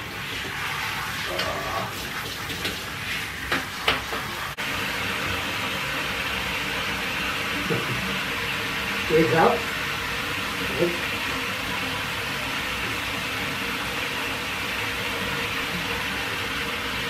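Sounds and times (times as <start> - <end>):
shower water spraying: 0.0 - 17.0.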